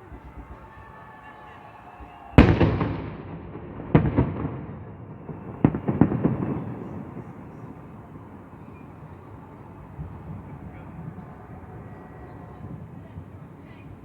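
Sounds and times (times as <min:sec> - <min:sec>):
fireworks bursting with echo: 0:00.0 - 0:14.0.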